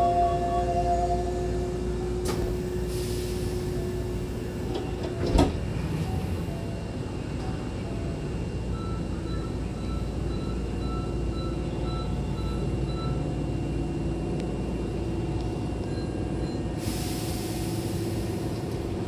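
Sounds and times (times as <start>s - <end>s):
train humming: 0.0s - 19.0s.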